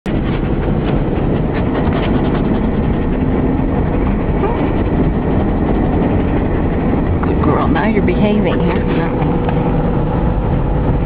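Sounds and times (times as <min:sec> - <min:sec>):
car road and engine noise: 0:00.1 - 0:11.0.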